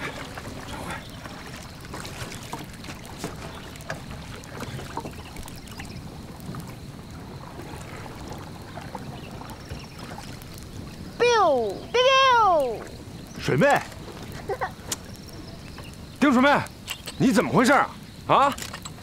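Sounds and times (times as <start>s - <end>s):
small splashes: 0.0s - 16.1s
water lapping around boat: 0.0s - 19.0s.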